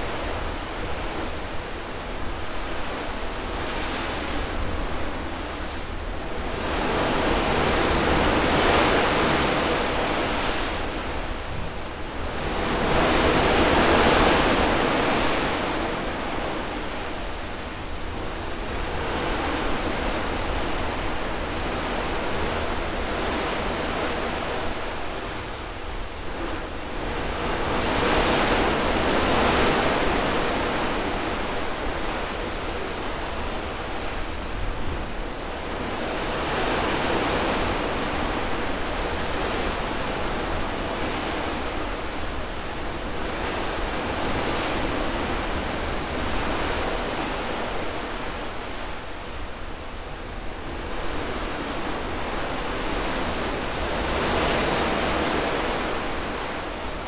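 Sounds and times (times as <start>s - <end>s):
seawater rushing and splashing: 0.0s - 57.0s.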